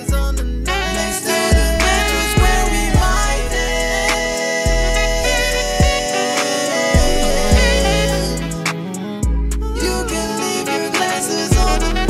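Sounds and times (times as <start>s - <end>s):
deep bass notes: 0.0s - 6.1s, 7.0s - 10.4s, 11.5s - 12.0s
sustained chords: 0.4s - 10.6s.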